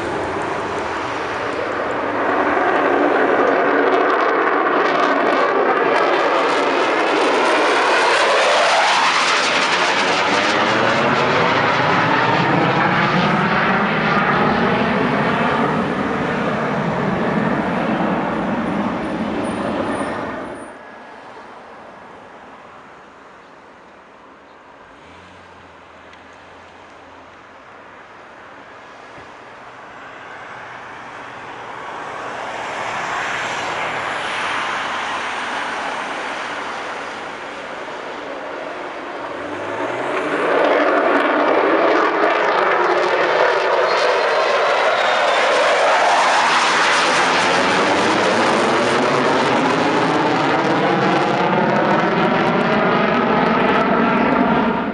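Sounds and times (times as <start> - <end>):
fighter jet taking off: 0.0 - 23.2, 28.0 - 54.9.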